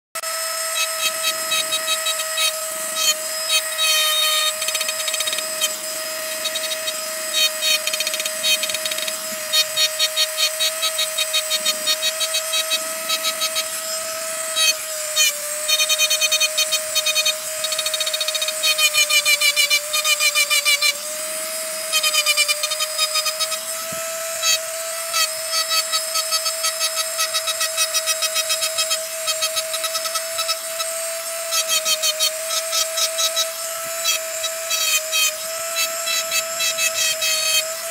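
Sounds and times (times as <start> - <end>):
rotary engraving tool whine: 0.2 - 37.9
bit scraping against stone: 0.6 - 20.9, 21.8 - 37.9.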